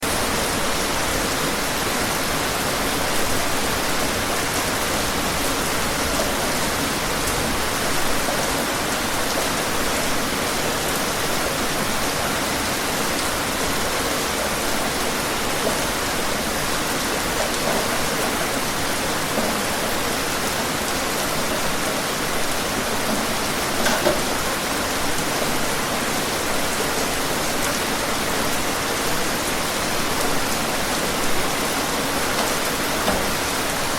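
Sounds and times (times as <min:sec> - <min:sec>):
louder raindrops: 0:00.0 - 0:33.9
rain falling: 0:00.0 - 0:33.9.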